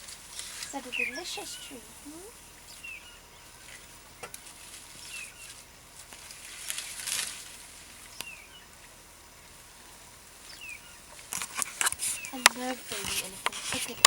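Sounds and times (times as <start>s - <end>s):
bush ambience: 0.0s - 14.0s
leaves rustling and twigs snapping: 0.0s - 14.0s.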